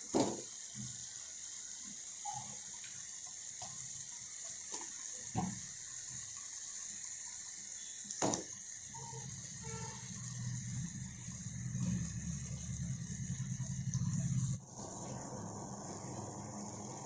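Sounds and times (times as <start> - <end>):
masala sizzling: 0.0 - 17.0.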